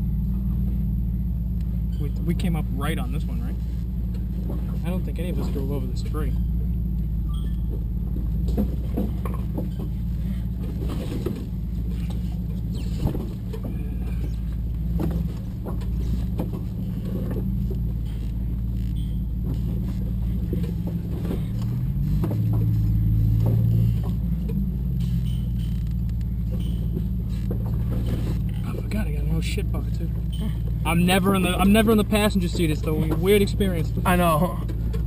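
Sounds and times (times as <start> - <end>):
body and suspension rattles: 0.0 - 35.0
car engine droning: 0.0 - 35.0.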